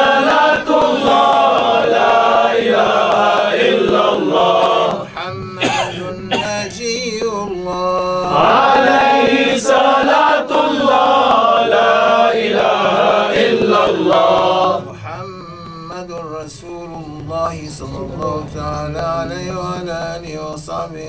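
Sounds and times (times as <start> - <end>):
men chanting together: 0.0 - 6.8, 8.1 - 21.0.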